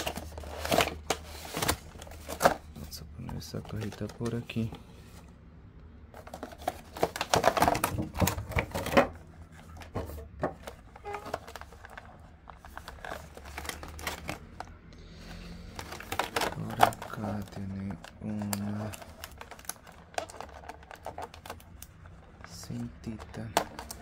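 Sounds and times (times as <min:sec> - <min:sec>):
packaging being handled: 0:00.0 - 0:05.2, 0:06.1 - 0:24.0.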